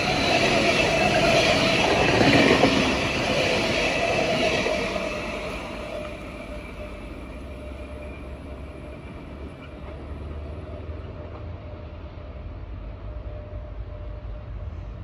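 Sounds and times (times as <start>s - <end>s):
faint train whine: 0.0s - 15.0s
train rumble: 0.0s - 15.0s.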